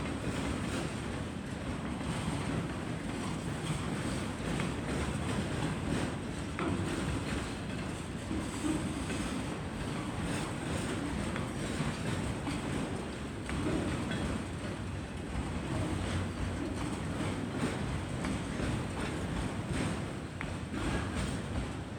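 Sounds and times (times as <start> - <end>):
freight train rumbling: 2.5 - 21.9.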